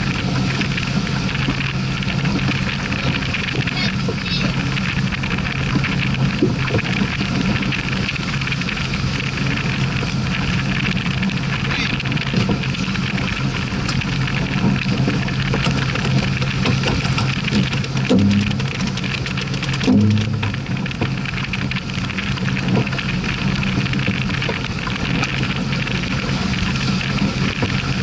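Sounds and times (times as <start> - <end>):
steady low hum: 0.0 - 28.0
water rushing along hull: 0.0 - 28.0
wind buffeting: 0.0 - 28.0.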